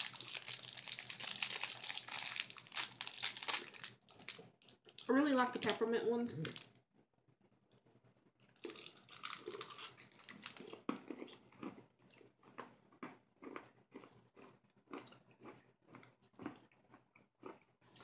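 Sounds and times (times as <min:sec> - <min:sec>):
chewing crunchy candy: 0:00.0 - 0:05.8, 0:08.4 - 0:18.0.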